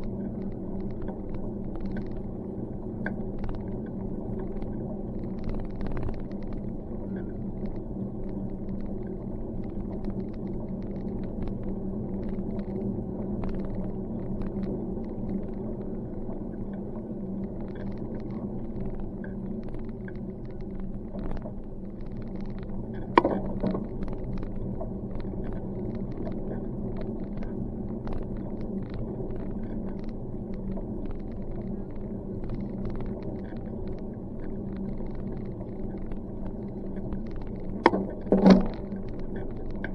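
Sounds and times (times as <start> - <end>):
bicycle riding rumble: 0.0 - 39.9.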